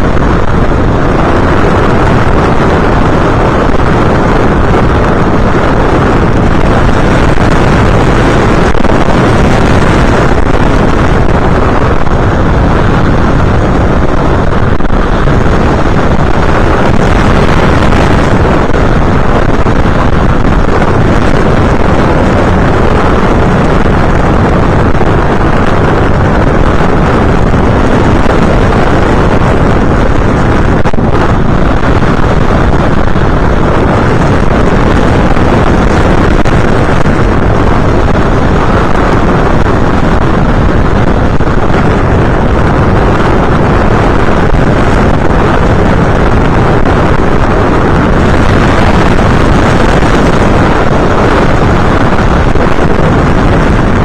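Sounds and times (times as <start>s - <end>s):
motor and propeller noise: 0.0s - 54.0s
wind rushing on microphone: 0.0s - 54.0s.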